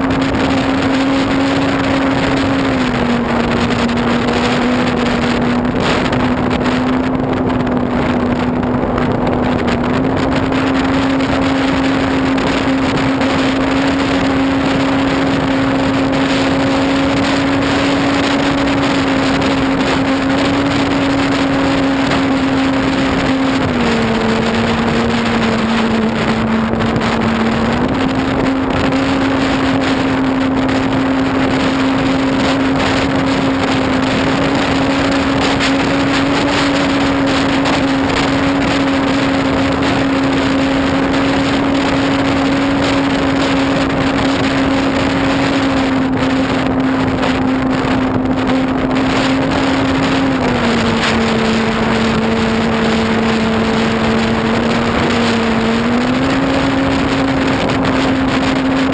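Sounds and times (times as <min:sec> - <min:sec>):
wind noise on microphone: 0:00.0 - 0:58.9.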